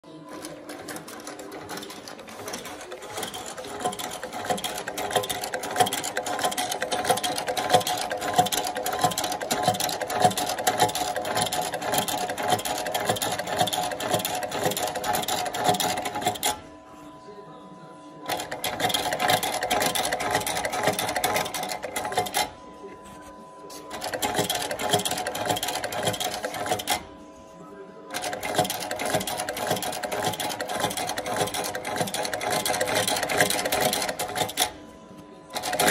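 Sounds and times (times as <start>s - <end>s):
stitching machine needle strokes: 0.3s - 16.7s, 18.3s - 22.6s, 23.7s - 27.1s, 28.1s - 34.8s, 35.5s - 35.9s.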